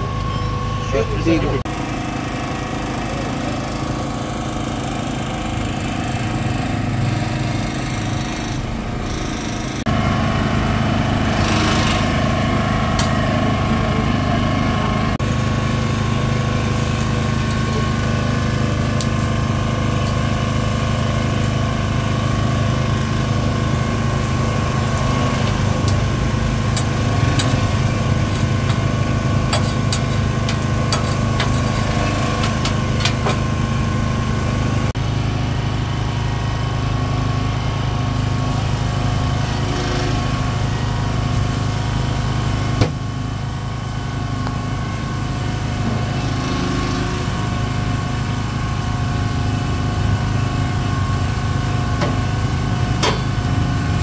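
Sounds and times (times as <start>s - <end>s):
petrol generator running: 0.0s - 54.0s.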